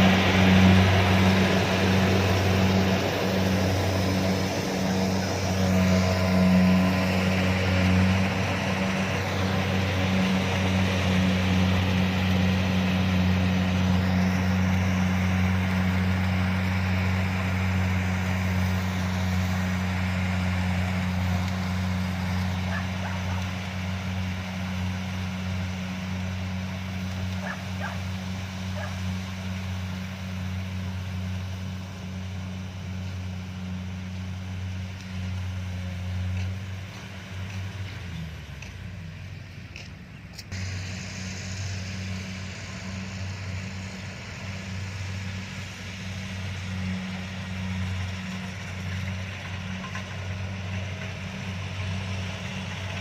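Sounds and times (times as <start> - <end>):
combine harvester engine droning: 0.0 - 53.0.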